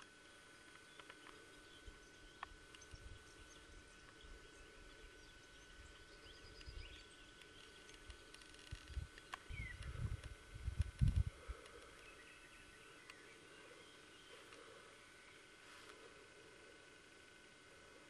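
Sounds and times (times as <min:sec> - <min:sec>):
birds chirping: 0:00.0 - 0:18.0
rural background hiss: 0:00.0 - 0:18.0.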